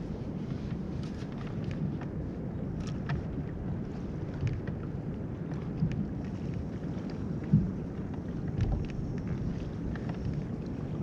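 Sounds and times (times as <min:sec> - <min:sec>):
water lapping against kayak hull: 0:00.0 - 0:11.0
wind rumbling on microphone: 0:00.0 - 0:11.0.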